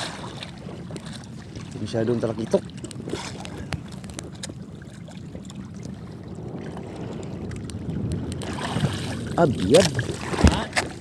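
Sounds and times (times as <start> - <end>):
small boat rumble: 0.0 - 11.0.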